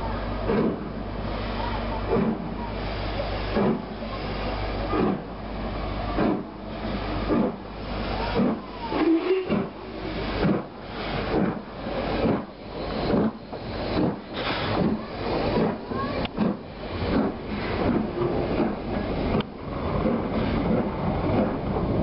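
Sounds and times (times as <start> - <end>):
steam locomotive chuffing: 0.1 - 22.0.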